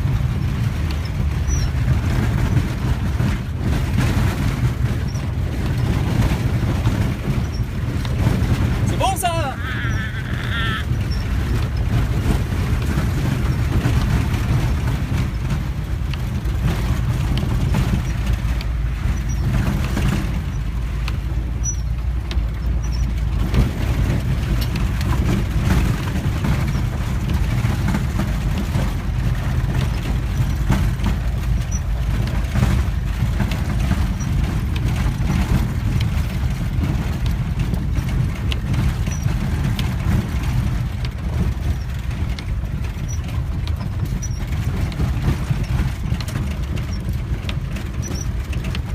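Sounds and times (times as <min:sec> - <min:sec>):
bus engine running: 0:00.0 - 0:48.9
knocks and rattles: 0:00.0 - 0:48.9.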